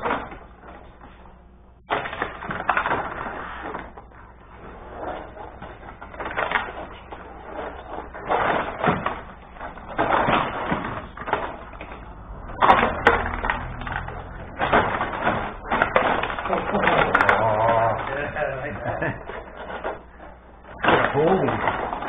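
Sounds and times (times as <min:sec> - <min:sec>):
rod hockey players clacking: 0:00.0 - 0:22.0.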